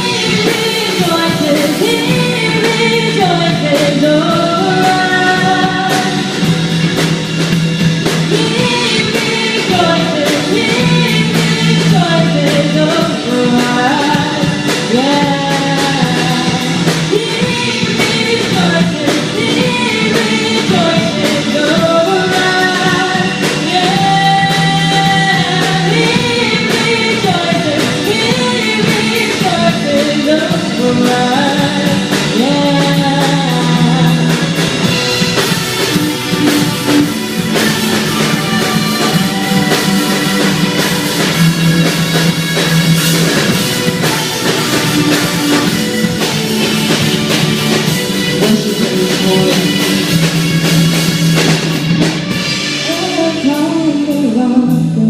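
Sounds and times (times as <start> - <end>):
cymbals: 0.0 - 54.1
rock worship band music: 0.0 - 55.0.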